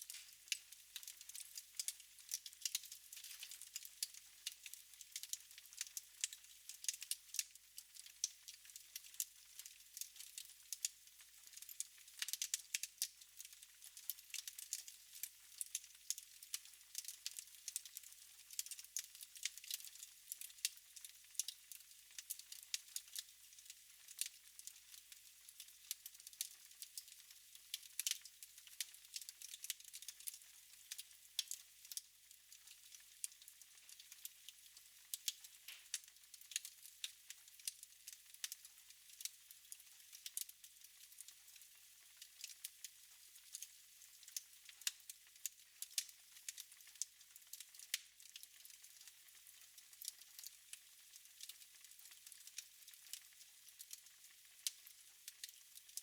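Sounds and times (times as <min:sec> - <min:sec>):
wood fire crackling: 0:00.0 - 0:24.8, 0:25.8 - 0:32.0, 0:32.6 - 0:34.3, 0:35.2 - 0:36.8, 0:37.5 - 0:41.6, 0:42.4 - 0:42.6, 0:43.3 - 0:49.1, 0:50.0 - 0:50.6, 0:55.4 - 0:56.0.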